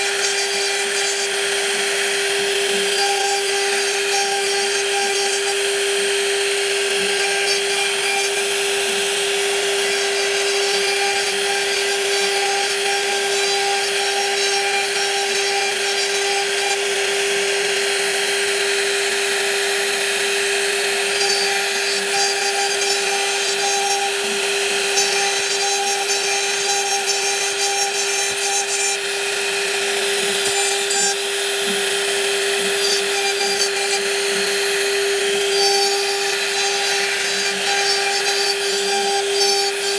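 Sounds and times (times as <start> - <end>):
wood cutting rasp: 0.0 - 39.9
woodworking machine whine: 0.0 - 39.9.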